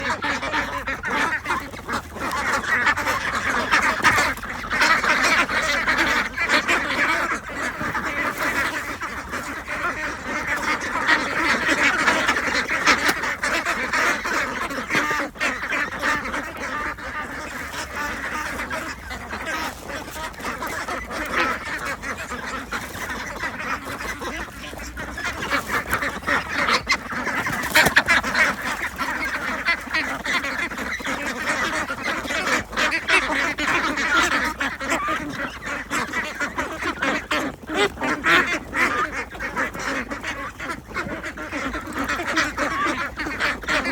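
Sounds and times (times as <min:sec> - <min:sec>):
ducks quacking: 0:00.0 - 0:43.9.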